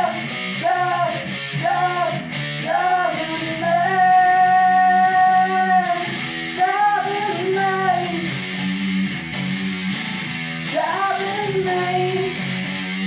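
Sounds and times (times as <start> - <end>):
person singing: 0.0 - 8.8, 10.6 - 12.7
overdriven electric guitar: 0.0 - 13.0.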